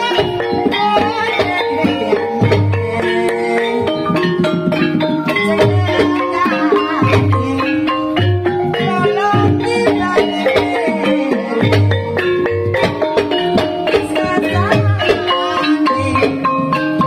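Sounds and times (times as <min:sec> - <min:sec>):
drum strokes: 0:00.0 - 0:17.0
mallet-struck tuned percussion: 0:00.0 - 0:17.0.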